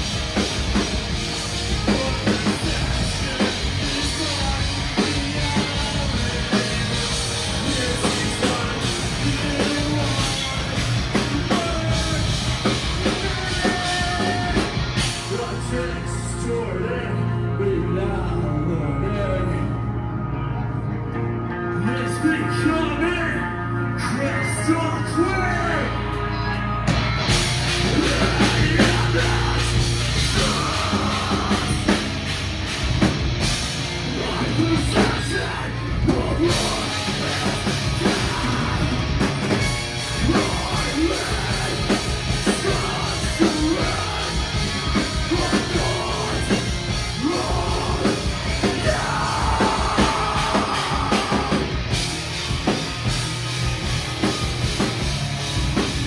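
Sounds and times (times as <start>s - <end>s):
drum kit: 0.0s - 16.6s, 26.8s - 56.0s
yelled vocals: 0.0s - 20.2s, 21.8s - 56.0s
electric guitars: 0.0s - 56.0s.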